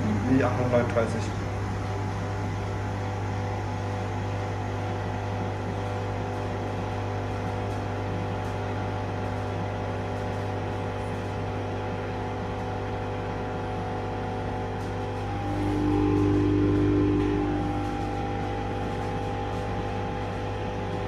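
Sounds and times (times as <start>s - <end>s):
washing machine running: 0.0s - 21.0s
washing machine whine: 0.0s - 21.0s.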